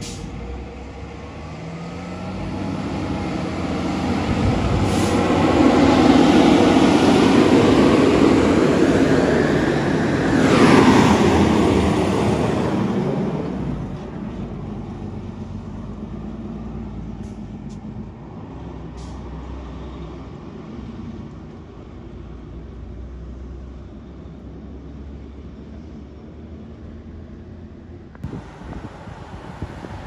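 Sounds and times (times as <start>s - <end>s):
diesel engines rumbling: 0.0s - 30.0s.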